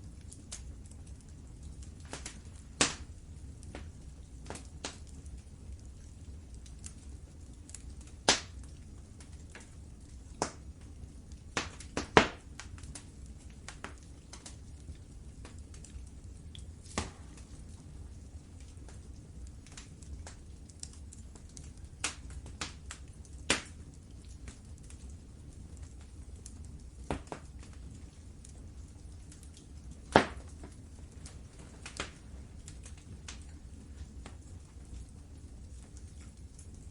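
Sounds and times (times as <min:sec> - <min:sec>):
low rumble of flame: 0:00.0 - 0:36.9
wood fire crackling and popping: 0:00.0 - 0:36.9.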